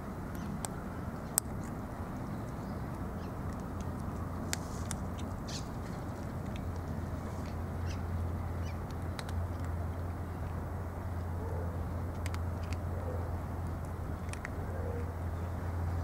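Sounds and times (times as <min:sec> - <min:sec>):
cats crunching dry food: 0:00.4 - 0:07.6, 0:08.3 - 0:14.7.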